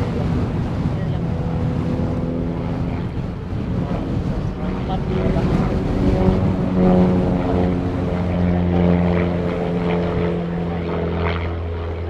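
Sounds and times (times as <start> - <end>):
aircraft engine and propeller: 0.0 - 12.0.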